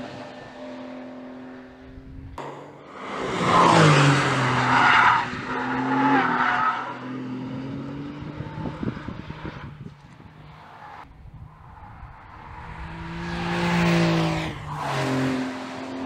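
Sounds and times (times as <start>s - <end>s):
car engine accelerating hard: 0.0s - 10.4s, 12.3s - 16.0s.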